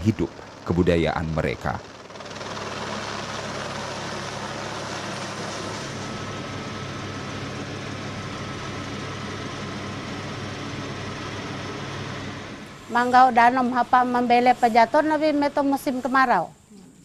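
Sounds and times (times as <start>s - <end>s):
motor engine droning: 0.0s - 16.2s.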